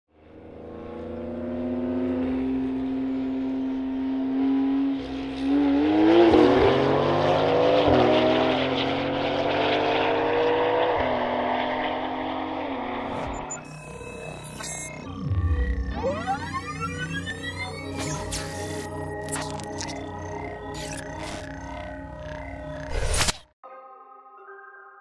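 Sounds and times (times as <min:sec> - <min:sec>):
car engine accelerating hard: 0:00.1 - 0:22.8.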